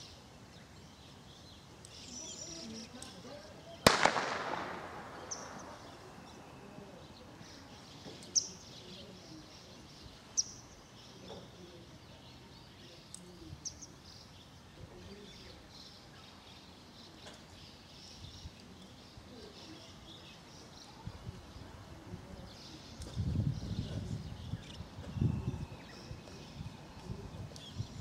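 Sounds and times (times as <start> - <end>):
birds chirping: 0.0 - 28.0
quiet outdoor background noise: 0.0 - 28.0.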